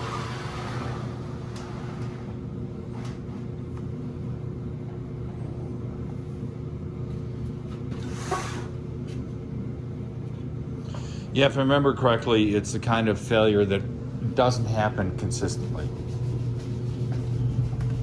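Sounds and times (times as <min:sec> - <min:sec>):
dryer rumbling and humming: 0:00.0 - 0:18.0.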